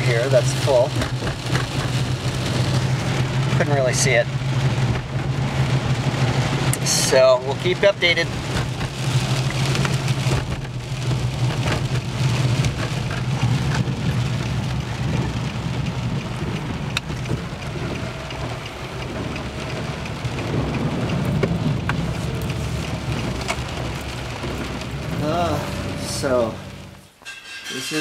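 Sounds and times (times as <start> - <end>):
engine and tyre rumble: 0.0 - 27.2
rain on car roof: 0.0 - 27.2.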